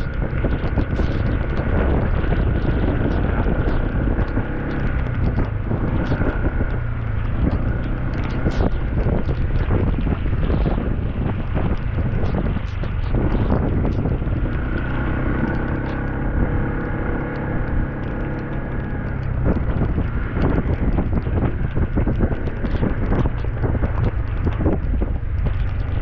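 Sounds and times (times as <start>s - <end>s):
vehicle engine running: 0.0s - 26.0s
wind buffeting microphone: 0.0s - 26.0s.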